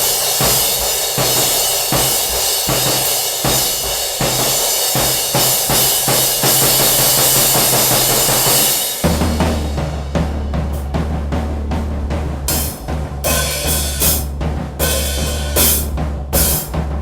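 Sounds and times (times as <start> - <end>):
cymbals crashing: 0.0 - 10.8, 12.5 - 16.7
drum strikes: 0.0 - 17.0.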